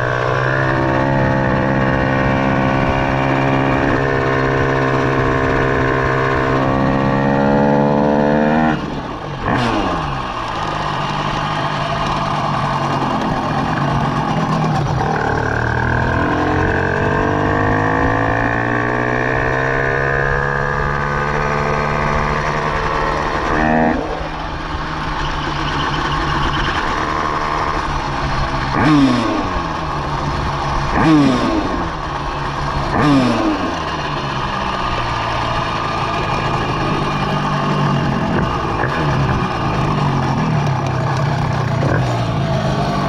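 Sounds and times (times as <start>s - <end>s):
two-stroke engine revving: 0.0s - 43.0s.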